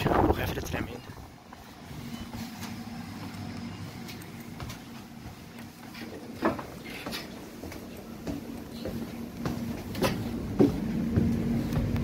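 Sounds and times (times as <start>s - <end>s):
tram equipment hum: 0.0s - 12.0s.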